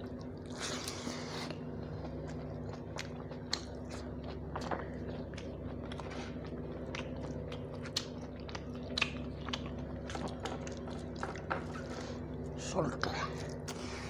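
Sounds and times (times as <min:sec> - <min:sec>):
person chewing: 0:00.0 - 0:12.6
steady low hum: 0:00.0 - 0:14.0.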